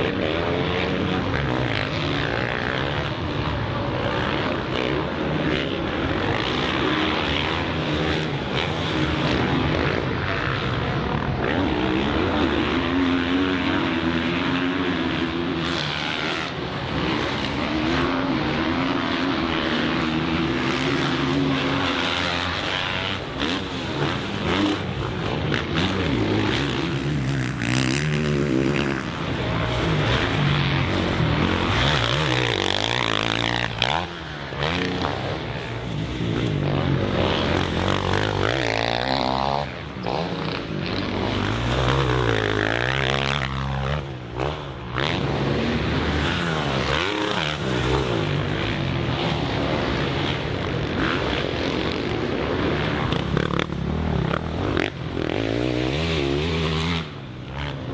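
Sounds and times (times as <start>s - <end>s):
motorbike engines revving: 0.0s - 57.9s.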